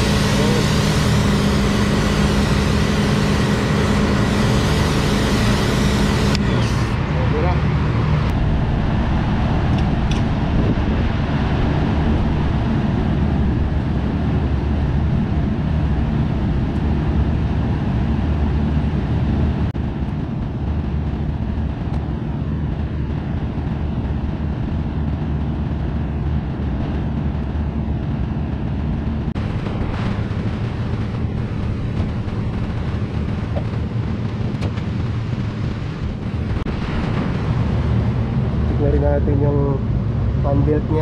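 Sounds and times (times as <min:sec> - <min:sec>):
low mechanical hum of machinery: 0:00.0 - 0:41.0.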